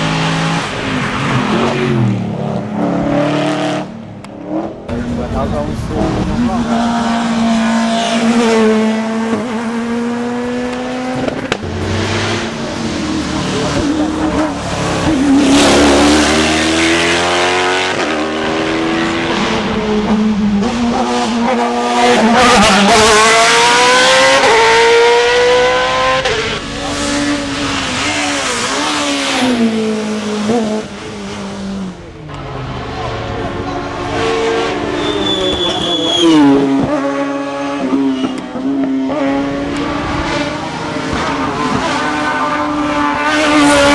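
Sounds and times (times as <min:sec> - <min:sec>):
racing car engine upshifting: 0:00.0 - 0:43.9.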